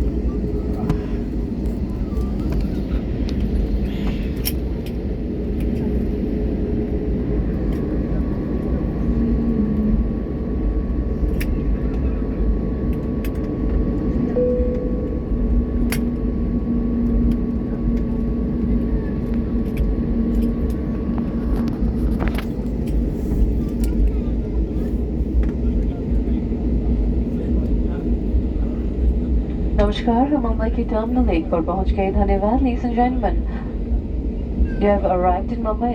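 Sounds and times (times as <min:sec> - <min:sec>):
airliner cabin rumble: 0:00.0 - 0:35.9.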